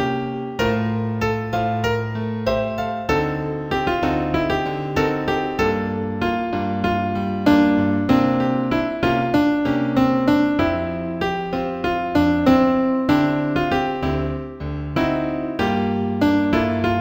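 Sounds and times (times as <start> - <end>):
new-age piano music: 0.0 - 17.0.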